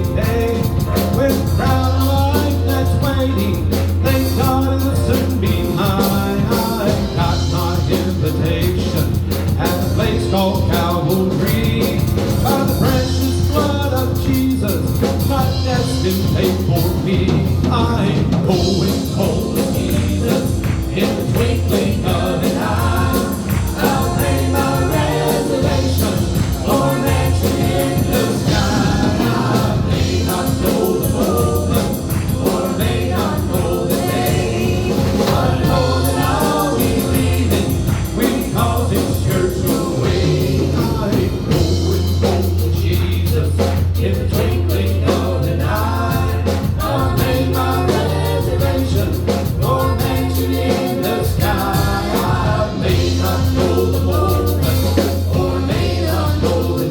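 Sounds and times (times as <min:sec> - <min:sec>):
gospel singing with band: 0:00.0 - 0:56.9.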